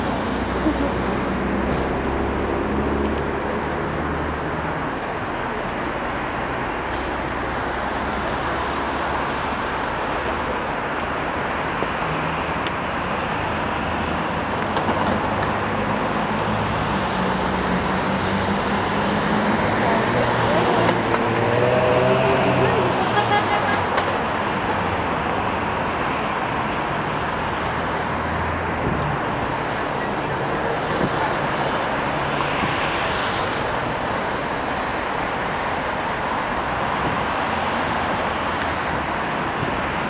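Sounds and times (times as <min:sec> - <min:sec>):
cars passing with tyre noise: 0:00.0 - 0:40.0.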